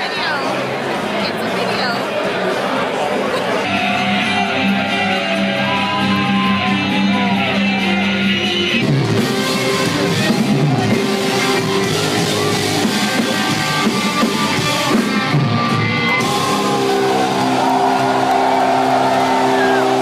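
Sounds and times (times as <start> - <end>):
loud rock music: 1.7 - 20.0.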